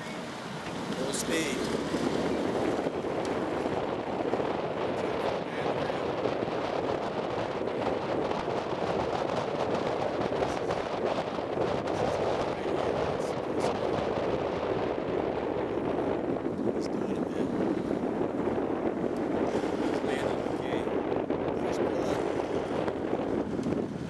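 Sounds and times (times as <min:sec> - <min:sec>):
car wind and road noise: 0:00.0 - 0:24.0.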